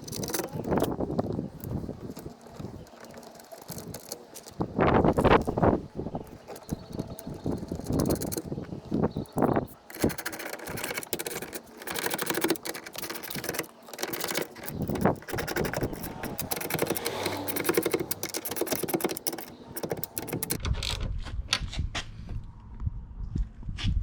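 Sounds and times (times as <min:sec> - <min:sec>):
ratchet clicking rapidly: 0:00.0 - 0:20.6.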